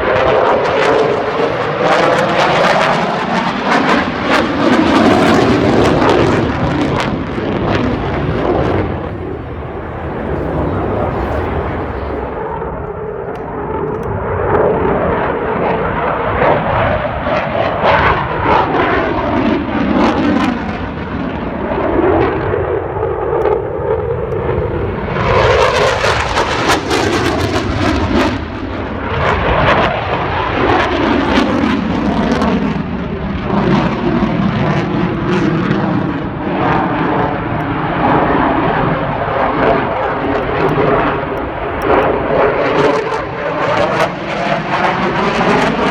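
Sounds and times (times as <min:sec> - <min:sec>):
fighter jet engines roaring: 0:00.0 - 0:45.9.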